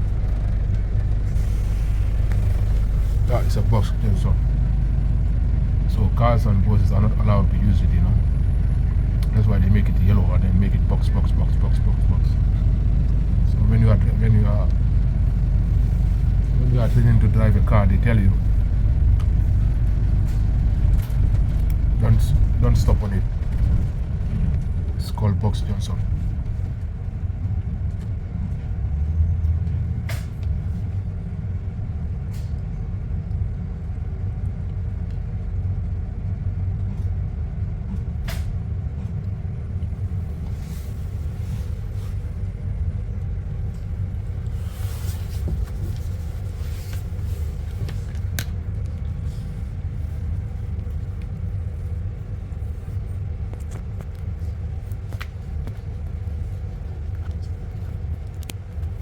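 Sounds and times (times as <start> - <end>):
bus rumble from inside: 0.0 - 59.0.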